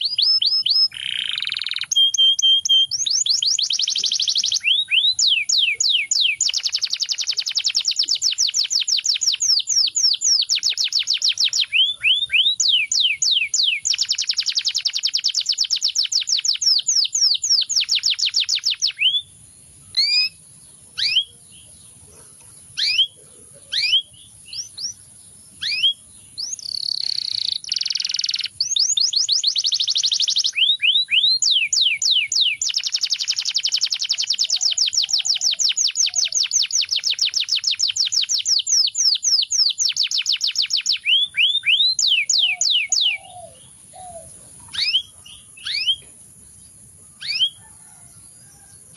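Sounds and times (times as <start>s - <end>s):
canary trilling: 0.0s - 19.3s, 19.9s - 20.4s, 21.0s - 25.0s, 25.6s - 46.1s, 47.2s - 48.0s
canary single chirps: 0.0s - 25.0s, 25.6s - 46.1s, 47.1s - 47.7s.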